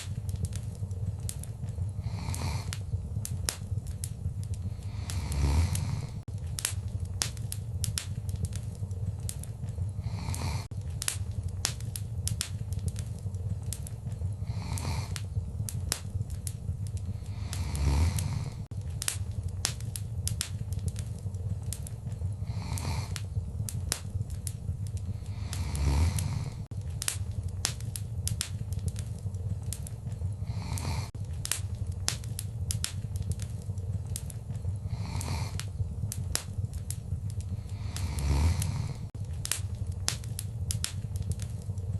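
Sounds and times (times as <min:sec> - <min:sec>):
fire crackling and popping: 0:00.0 - 0:41.9
fire rumbling: 0:00.0 - 0:41.9
soft whooshing of fire: 0:00.0 - 0:41.9.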